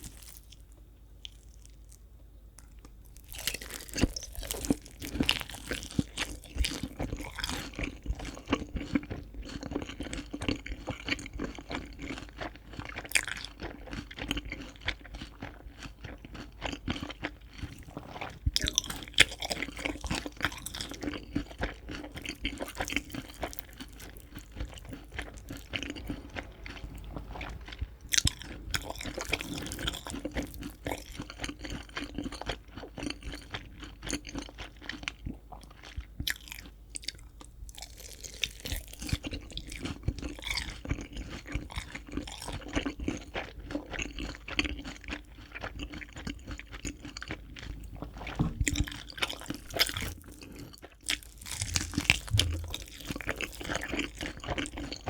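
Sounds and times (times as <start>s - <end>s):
crunching and chewing: 0.0s - 55.0s.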